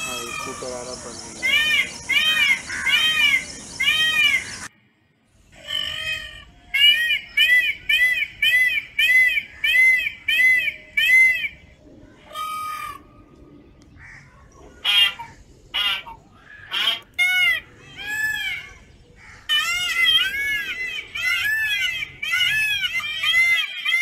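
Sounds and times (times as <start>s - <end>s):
peacock calling: 0.0s - 4.7s, 5.5s - 24.0s.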